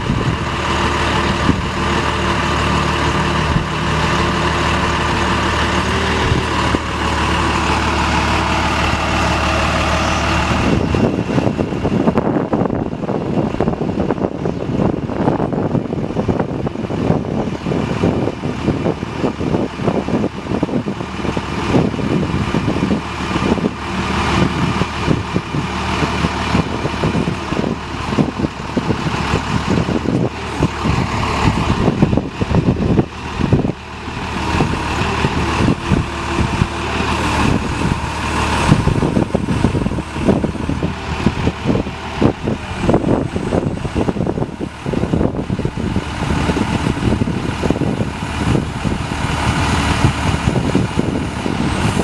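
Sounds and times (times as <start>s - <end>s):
diesel truck engine running: 0.0s - 52.0s.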